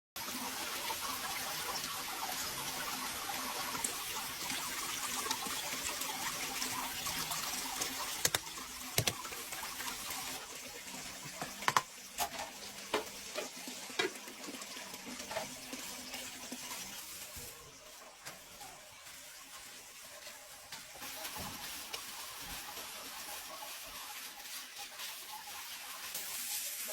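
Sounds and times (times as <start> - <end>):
running water hiss: 0.2 - 26.9.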